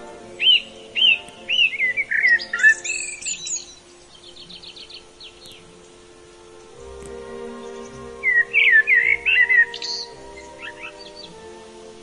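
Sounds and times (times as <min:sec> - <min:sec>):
soft background music: 0:00.0 - 0:12.0
songbird singing: 0:00.0 - 0:12.0.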